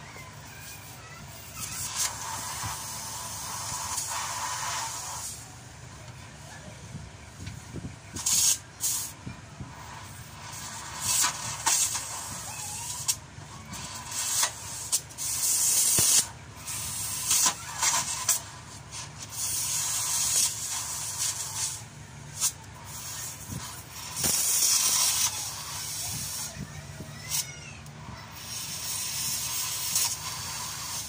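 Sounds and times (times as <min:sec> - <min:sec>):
arc welding crackling: 0:00.3 - 0:05.6, 0:08.1 - 0:31.0.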